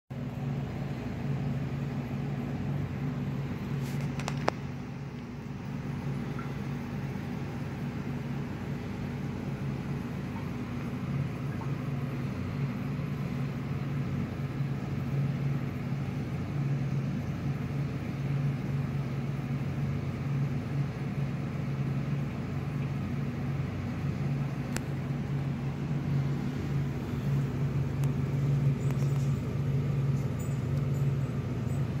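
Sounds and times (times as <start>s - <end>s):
aquarium water pumps humming: 0.1s - 32.0s
water circulating: 0.1s - 32.0s.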